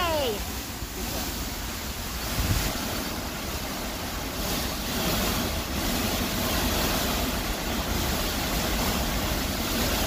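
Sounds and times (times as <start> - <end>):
heavy rain pouring: 0.0 - 10.0
wind buffeting microphone: 0.0 - 10.0.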